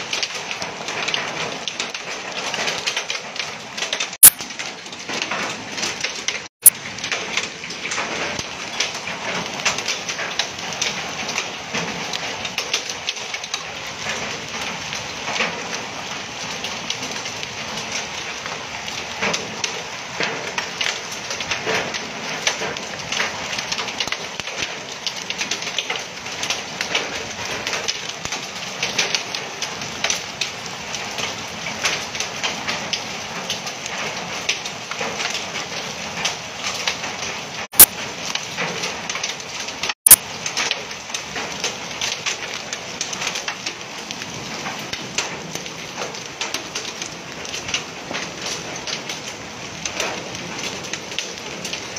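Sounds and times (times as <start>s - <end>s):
heavy rain and hail on pavement: 0.0s - 51.9s.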